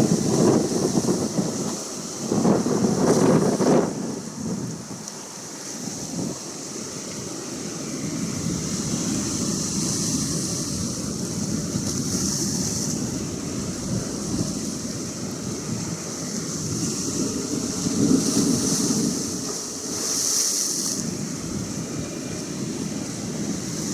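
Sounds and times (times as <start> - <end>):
ocean waves rushing: 0.0 - 23.9.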